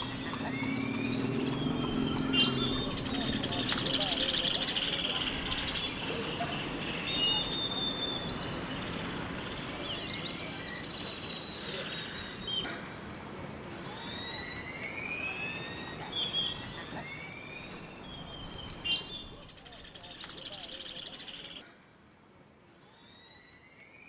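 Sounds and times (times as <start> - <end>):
birds whistling and calling: 0.0 - 8.9, 9.5 - 12.7, 13.8 - 21.6.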